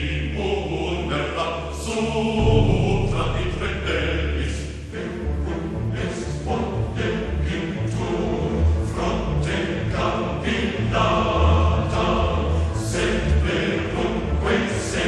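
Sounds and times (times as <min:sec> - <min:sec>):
choir singing over orchestra: 0:00.0 - 0:15.0.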